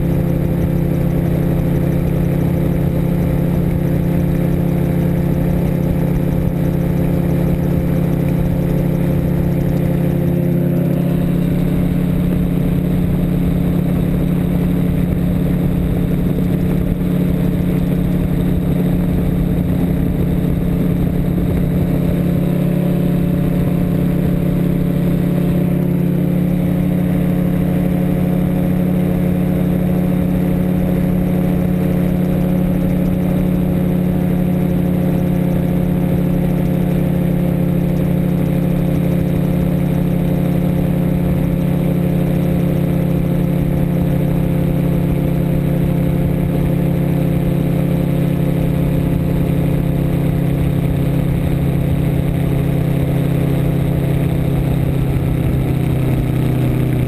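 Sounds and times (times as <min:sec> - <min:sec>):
gyroplane engine and propeller: 0:00.0 - 0:57.0.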